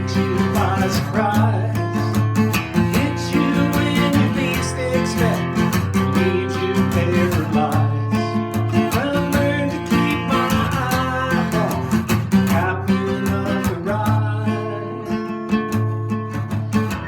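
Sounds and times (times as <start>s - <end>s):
acoustic guitar picked and strummed: 0.0s - 17.0s.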